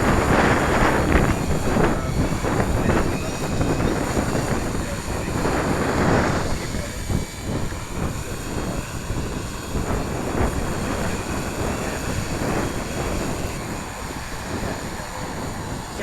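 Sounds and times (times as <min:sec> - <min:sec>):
drone motors whining: 0:00.0 - 0:16.0
wind buffeting microphone: 0:00.0 - 0:16.0.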